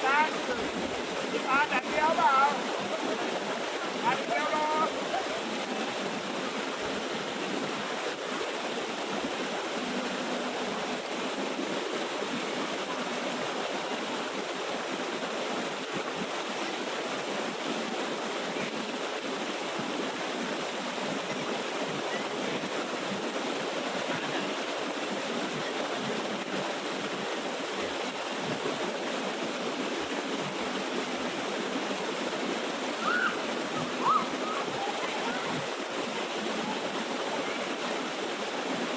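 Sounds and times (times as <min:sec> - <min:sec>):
waterfall rushing over rocks: 0:00.0 - 0:38.9.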